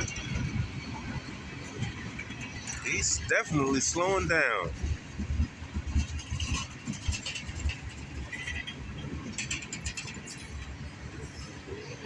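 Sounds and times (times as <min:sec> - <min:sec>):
train wheel clicks: 0:00.0 - 0:11.7
freight train rumbling past: 0:00.0 - 0:12.0.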